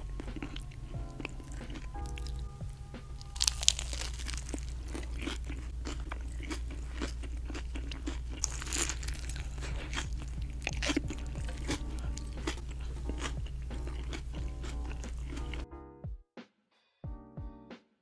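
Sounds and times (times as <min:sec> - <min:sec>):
chewing with wet crunching: 0:00.0 - 0:02.5, 0:03.2 - 0:15.6.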